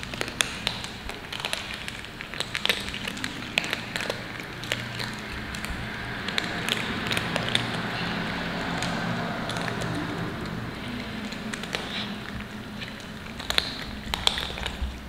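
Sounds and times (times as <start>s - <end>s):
kittens crunching dry kibble: 0.0s - 15.0s.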